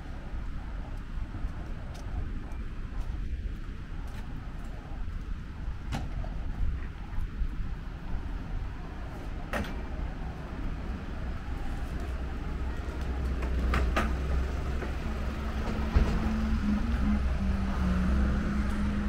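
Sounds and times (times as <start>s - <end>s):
rumble of vehicle engines: 0.0s - 19.0s
engine hum: 3.7s - 19.0s.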